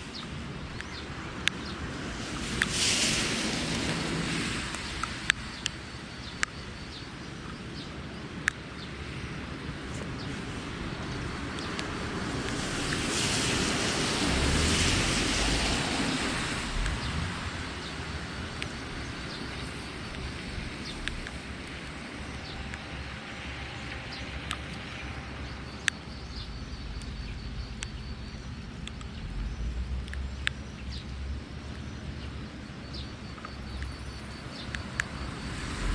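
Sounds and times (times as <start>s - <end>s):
wind buffeting microphone: 0.0s - 28.5s, 34.0s - 35.9s
sea waves washing on shore: 0.0s - 30.6s, 32.2s - 35.9s.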